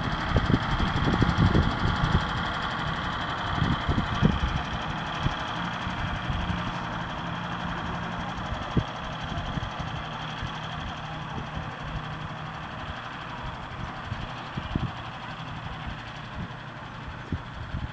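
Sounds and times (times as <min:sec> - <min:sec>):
tractor engine running: 0:00.0 - 0:17.9.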